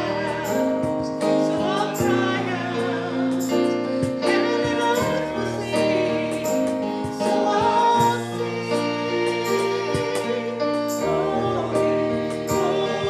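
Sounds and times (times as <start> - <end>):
congregation singing with instruments: 0.0 - 13.0.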